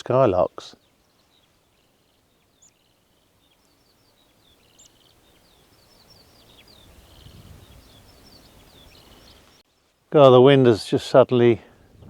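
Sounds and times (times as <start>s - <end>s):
skylarks singing: 0.0s - 12.0s.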